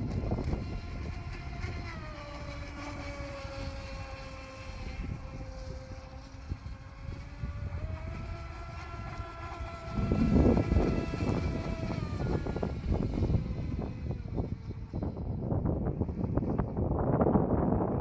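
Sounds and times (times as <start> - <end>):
electric motor whining: 0.0 - 17.4
wind rumble on microphone: 0.0 - 18.0.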